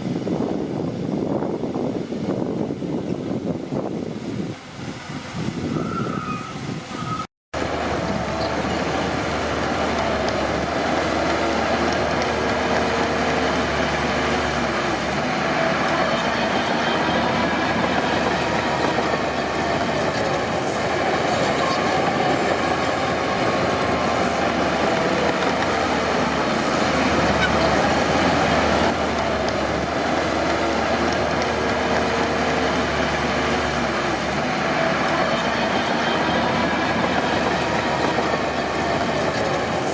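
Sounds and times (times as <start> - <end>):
diesel engine under load: 0.0 - 39.9
steel tracks clattering and squealing: 5.6 - 39.9.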